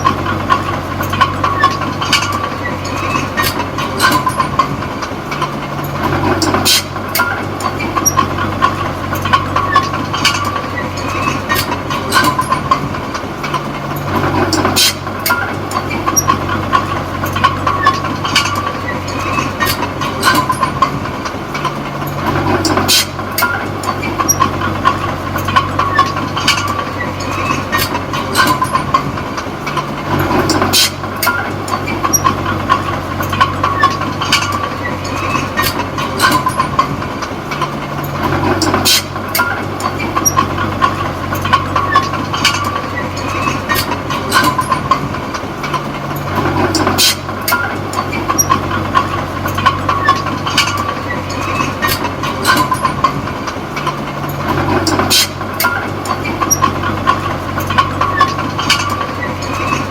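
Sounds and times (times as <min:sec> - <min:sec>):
bulldozer diesel engine under load: 0:00.0 - 0:59.9
steel tracks clanking and rattling: 0:00.0 - 0:59.9.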